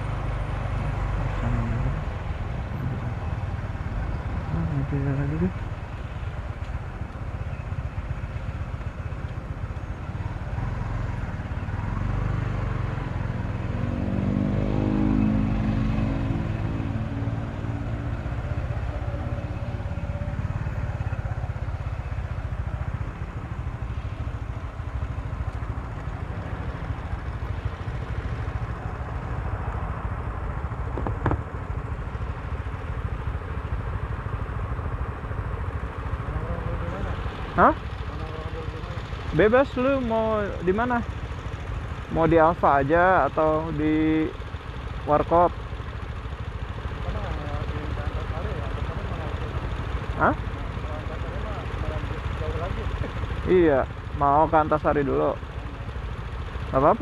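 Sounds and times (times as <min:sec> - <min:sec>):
motorcycle engine and wind rumble: 0:00.0 - 0:57.0.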